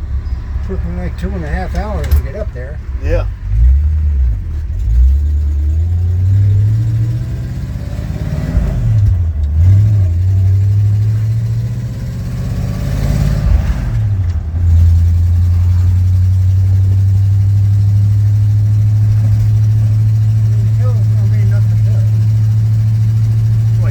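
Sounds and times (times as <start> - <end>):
pickup truck engine running: 0.0 - 23.9.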